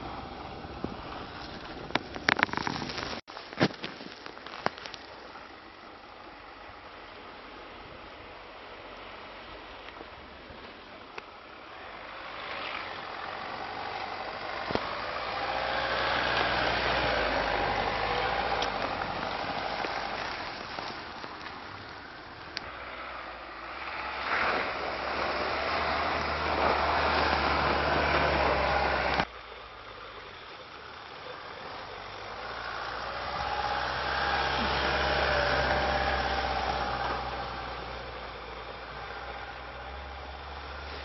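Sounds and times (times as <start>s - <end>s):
car engine driving: 0.0s - 41.0s
tyres churning snow: 0.0s - 41.0s.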